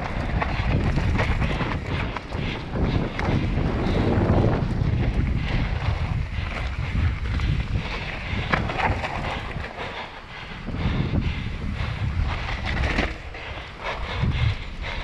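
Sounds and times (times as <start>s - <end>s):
bike knocking and rattling: 0.0s - 15.0s
tyres rolling on dirt trail: 0.0s - 15.0s
wind buffeting microphone: 0.0s - 15.0s.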